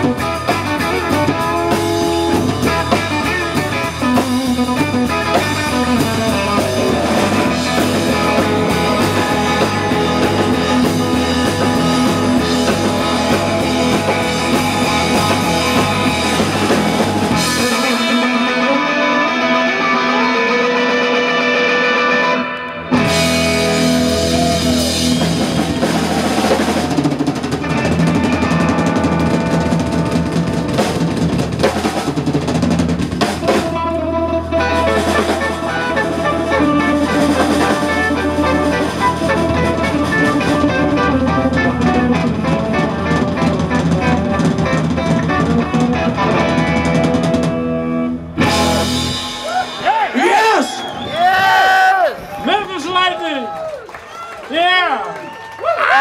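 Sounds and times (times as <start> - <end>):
drum kit: 0.0 - 20.4, 22.9 - 52.5
electric guitar: 0.0 - 52.4
bass guitar: 0.0 - 52.5.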